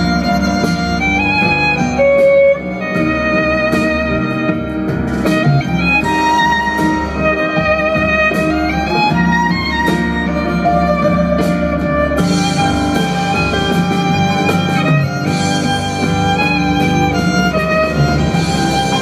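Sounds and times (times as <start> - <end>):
contrabass: 0.0 - 19.0
violin melody: 0.0 - 19.0.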